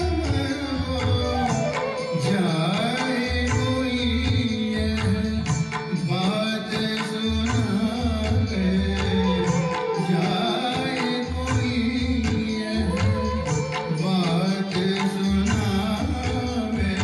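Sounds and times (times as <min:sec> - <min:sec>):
person singing devotional song: 0:00.0 - 0:17.0
tabla: 0:00.0 - 0:17.0.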